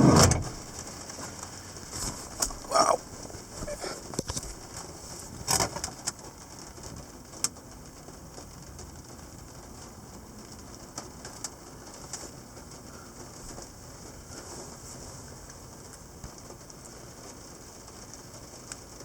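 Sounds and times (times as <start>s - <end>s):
light rain falling: 0.0s - 19.0s
rain drops tapping: 0.2s - 19.0s.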